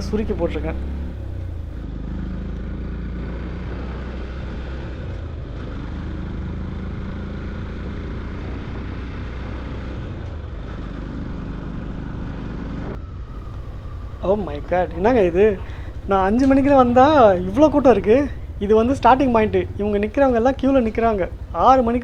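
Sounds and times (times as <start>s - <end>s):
motorcycle engine running: 0.0s - 22.0s
road and wind noise: 0.0s - 22.0s.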